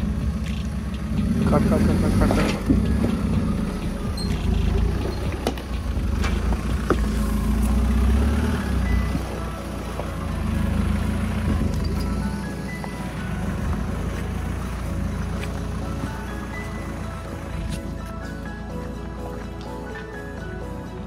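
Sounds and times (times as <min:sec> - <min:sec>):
car engine running at low revs: 0:00.0 - 0:19.2.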